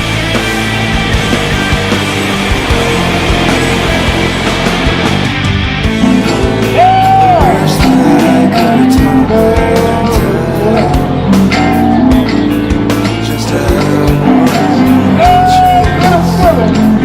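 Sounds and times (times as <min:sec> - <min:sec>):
rock music with drums and guitar: 0:00.0 - 0:17.0.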